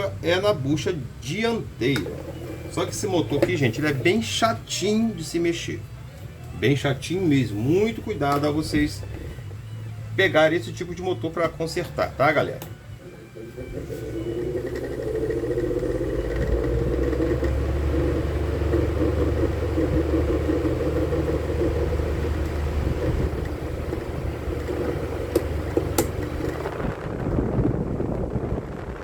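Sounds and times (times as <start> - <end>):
electric fan motor humming: 0.0 - 29.0.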